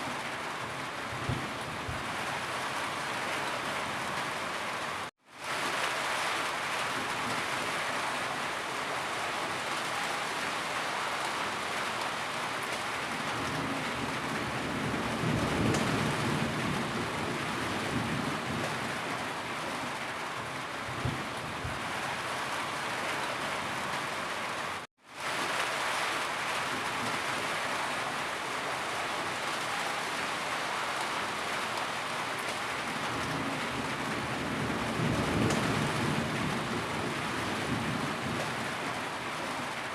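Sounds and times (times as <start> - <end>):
dense rainfall hiss: 0.0 - 39.9.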